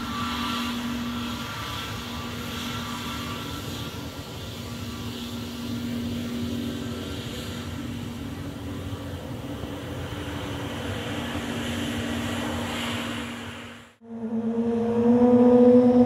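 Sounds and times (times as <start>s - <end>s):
jet engines at taxi power: 0.0s - 16.0s.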